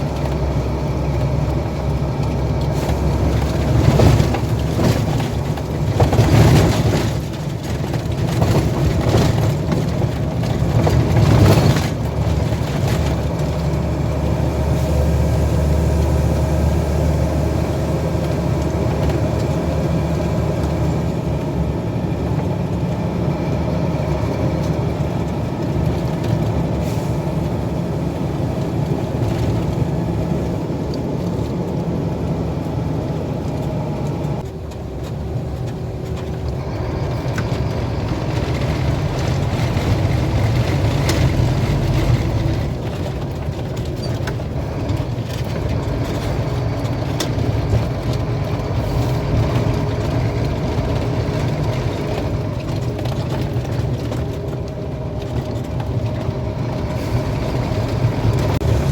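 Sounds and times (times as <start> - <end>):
heavy truck engine rumble: 0.0 - 58.9
road noise: 0.0 - 58.9.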